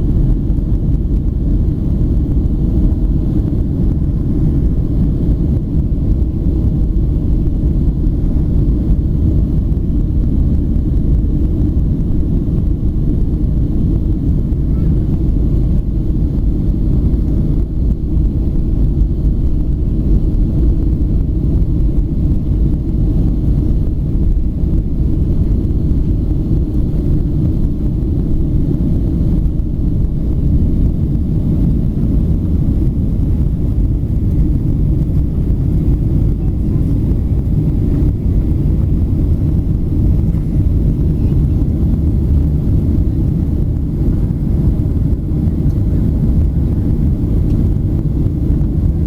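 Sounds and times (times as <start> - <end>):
airplane cabin engine drone: 0.0 - 49.0.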